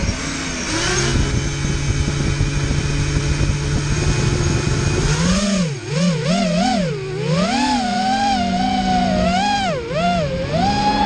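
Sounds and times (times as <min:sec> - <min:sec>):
drone motors spinning: 0:00.0 - 0:11.0.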